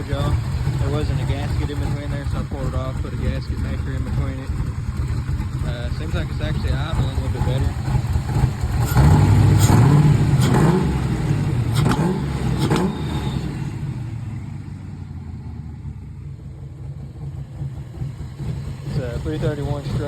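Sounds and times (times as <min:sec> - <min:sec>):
engine revving and idling: 0:00.0 - 0:20.0.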